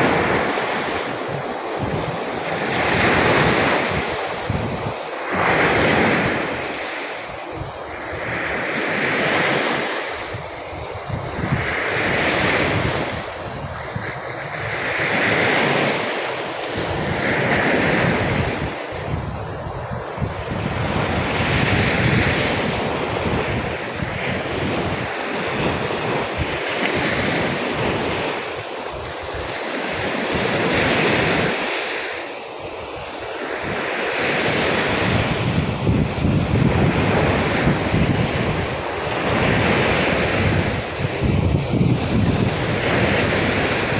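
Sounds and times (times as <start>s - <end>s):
wind buffeting microphone: 0.0s - 31.9s, 32.6s - 43.9s
sea waves breaking on beach: 0.0s - 43.9s.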